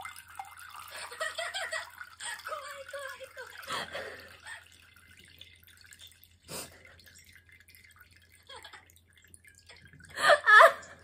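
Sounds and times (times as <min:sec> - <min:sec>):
liquid dripping: 0:00.0 - 0:11.0.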